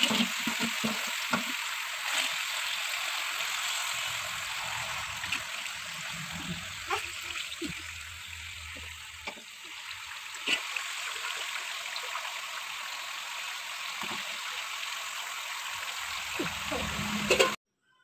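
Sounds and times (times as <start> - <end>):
fish sizzling in hot oil: 0.0 - 17.6.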